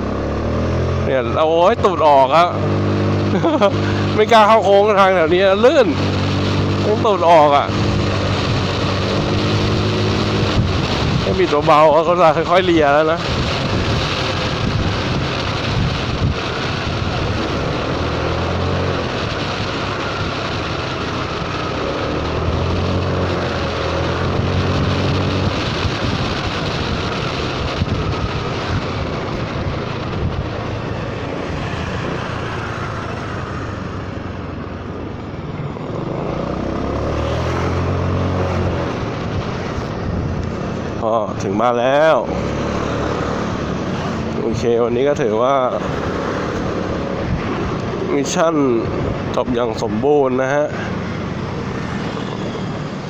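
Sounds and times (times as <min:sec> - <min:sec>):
scooter engine revving: 0:00.0 - 0:49.4, 0:50.5 - 0:53.0
wind and road noise: 0:00.0 - 0:53.0.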